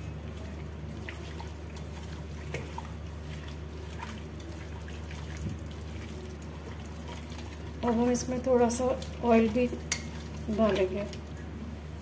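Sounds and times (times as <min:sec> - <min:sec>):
hand kneading wet marinated meat: 0:00.0 - 0:12.0
steady low hum: 0:00.0 - 0:12.0.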